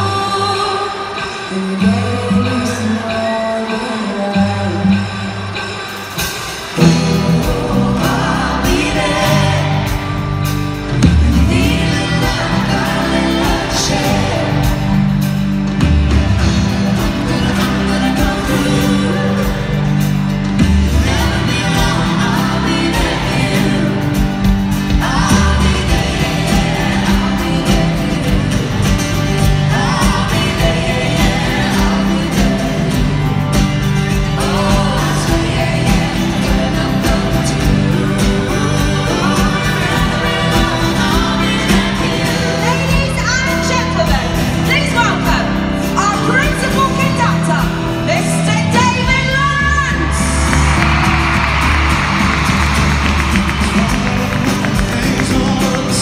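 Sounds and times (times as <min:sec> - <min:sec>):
live band with singing: 0:00.0 - 0:56.0.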